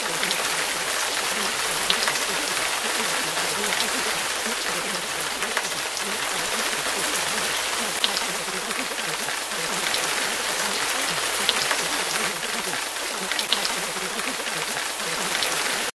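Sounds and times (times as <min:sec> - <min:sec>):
raindrop taps: 0:00.0 - 0:15.9
steady rain: 0:00.0 - 0:16.0.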